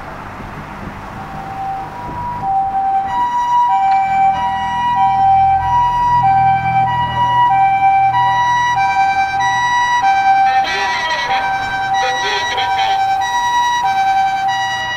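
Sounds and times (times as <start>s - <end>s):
engine rumbling: 0.0s - 14.9s
two-tone siren: 1.1s - 14.9s.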